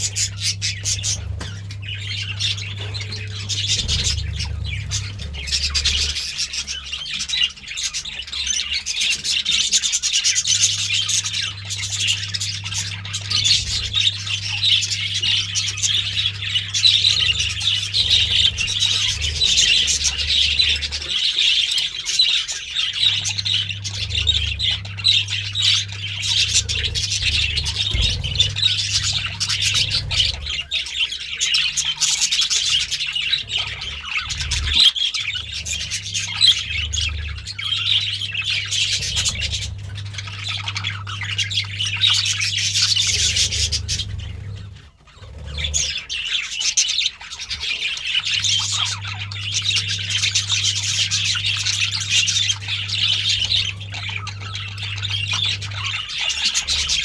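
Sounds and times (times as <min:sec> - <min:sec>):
budgerigars chattering and chirping: 0:00.0 - 0:57.0
low steady hum: 0:00.0 - 0:57.0.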